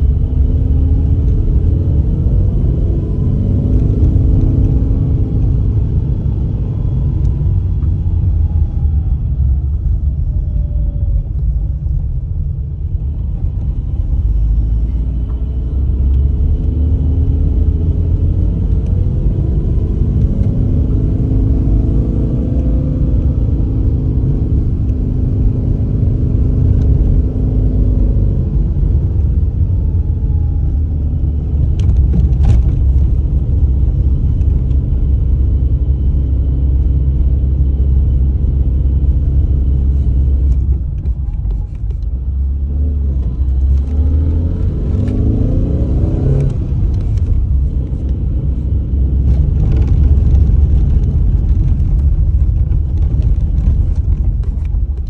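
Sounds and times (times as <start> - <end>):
car engine under throttle: 0.0 - 55.0.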